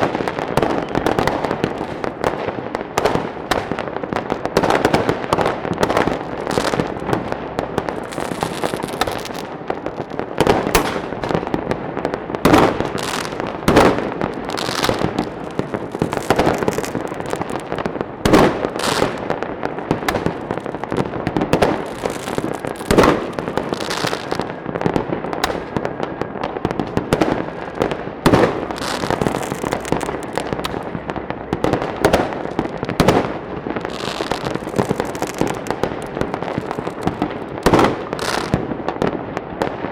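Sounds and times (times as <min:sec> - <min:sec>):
fireworks crackling and banging: 0:00.0 - 0:39.9.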